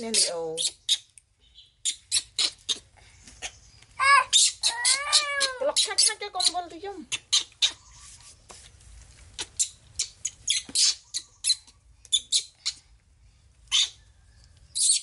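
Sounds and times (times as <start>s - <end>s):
baby monkey squeaking: 0.0s - 8.3s, 9.4s - 12.8s, 13.7s - 14.1s, 14.7s - 15.0s.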